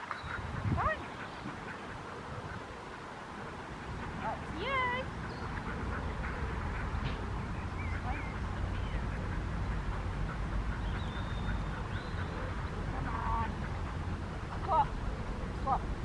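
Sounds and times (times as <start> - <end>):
bird calls: 0.0 - 15.7
steady low rumble: 0.3 - 16.0.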